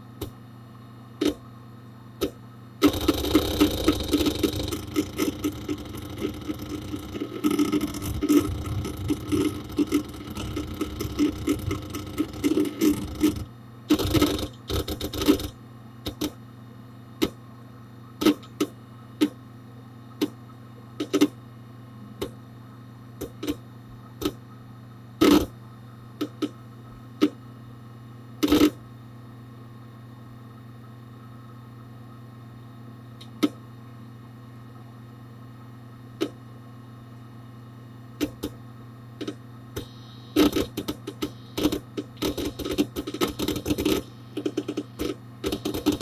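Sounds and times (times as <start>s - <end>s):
computer steady hum: 0.0s - 46.0s.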